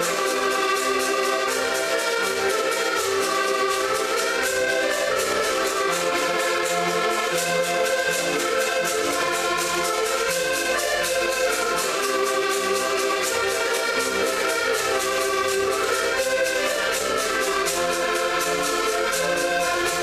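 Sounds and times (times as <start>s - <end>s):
accordions playing folk tune: 0.0s - 20.0s
wooden percussion clicking beat: 0.0s - 20.0s.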